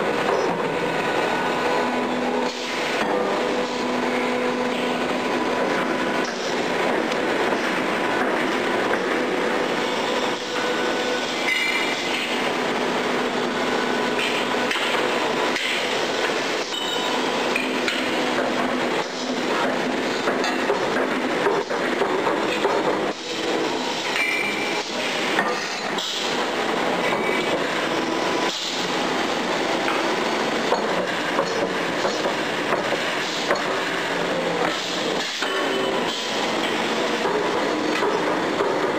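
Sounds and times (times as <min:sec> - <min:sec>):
brick press machine noise: 0:00.0 - 0:38.9.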